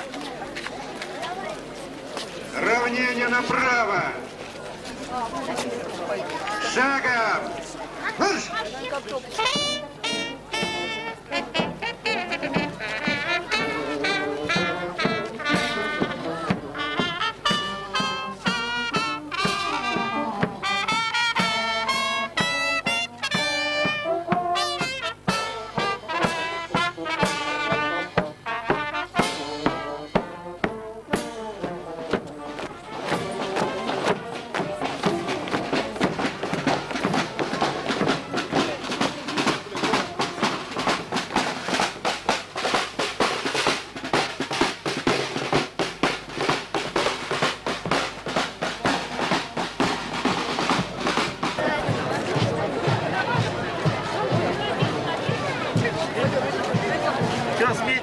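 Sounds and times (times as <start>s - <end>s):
brass band playing a march: 0.0s - 58.0s
marching drum beat: 0.0s - 58.0s.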